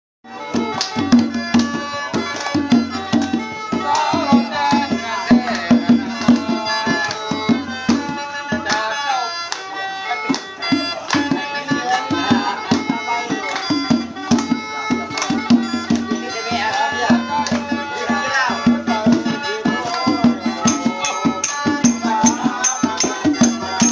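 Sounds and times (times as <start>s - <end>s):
hand drum beating: 0.3s - 8.9s, 10.3s - 23.9s
men singing and calling out: 0.3s - 23.9s.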